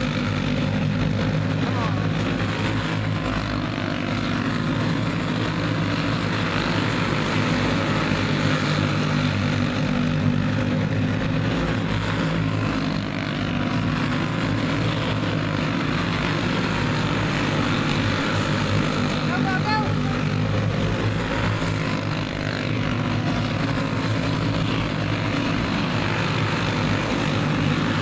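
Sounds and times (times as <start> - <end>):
racing kart engines droning: 0.0 - 28.0.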